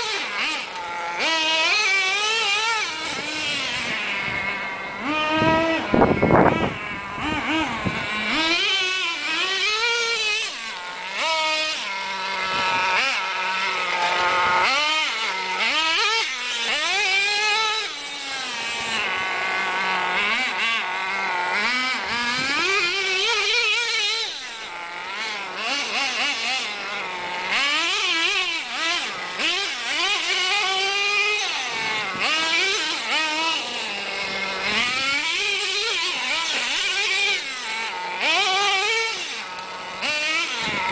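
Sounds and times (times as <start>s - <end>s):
small nitro engine revving: 0.0s - 40.9s.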